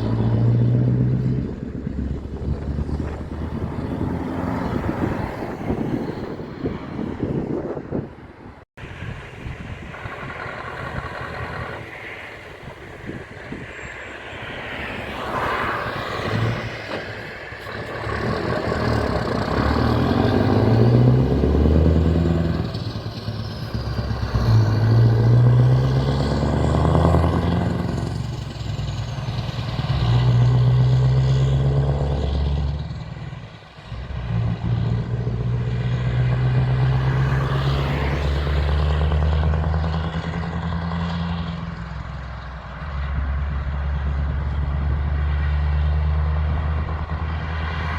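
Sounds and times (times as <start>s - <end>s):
heavy truck engine accelerating: 0.0s - 47.9s.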